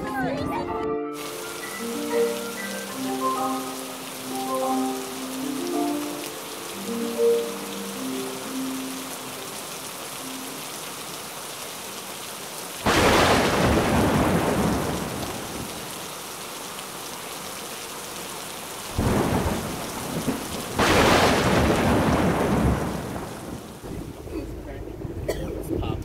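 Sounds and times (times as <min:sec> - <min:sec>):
rain hissing: 0:01.2 - 0:26.0.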